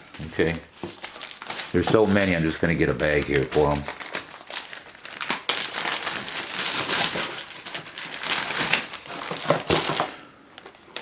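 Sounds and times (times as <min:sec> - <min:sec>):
plastic bag crinkling: 0:00.1 - 0:11.0.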